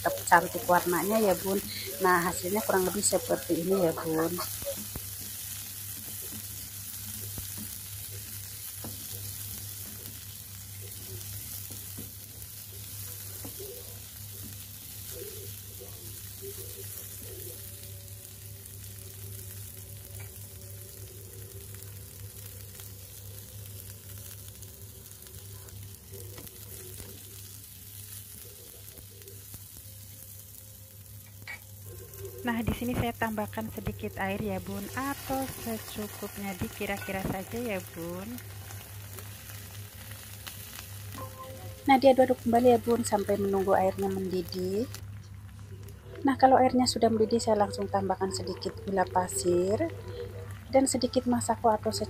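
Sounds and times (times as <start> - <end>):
beans sizzling in oil: 0.0 - 52.0.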